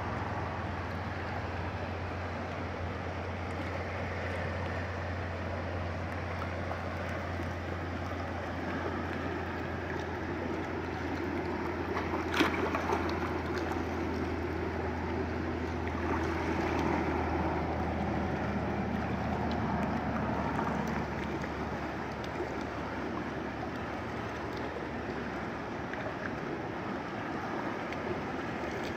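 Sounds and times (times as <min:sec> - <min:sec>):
creek water flowing over rocks: 0:00.0 - 0:28.9.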